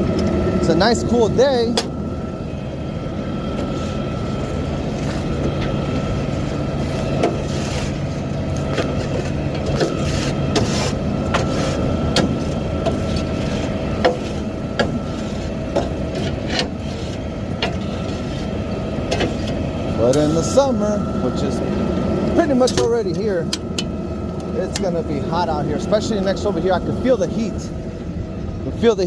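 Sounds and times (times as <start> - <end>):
garbage truck engine whine: 0.0 - 29.0.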